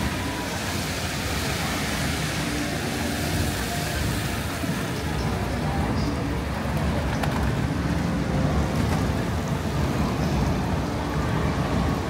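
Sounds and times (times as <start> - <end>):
falling rain: 0.0 - 12.0
road traffic: 0.0 - 12.0.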